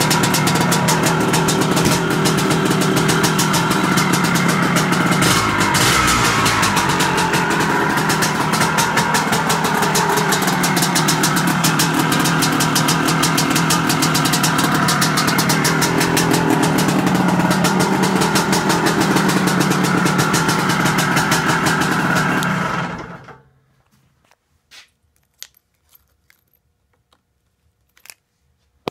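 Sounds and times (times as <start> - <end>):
motorcycle engine running: 0.0 - 23.3.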